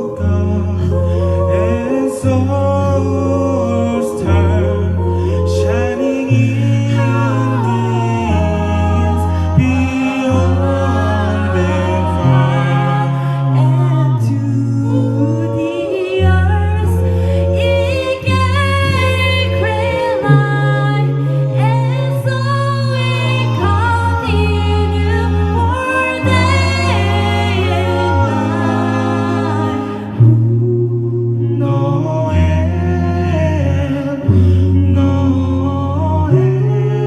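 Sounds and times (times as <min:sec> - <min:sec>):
a cappella group singing: 0:00.0 - 0:37.0.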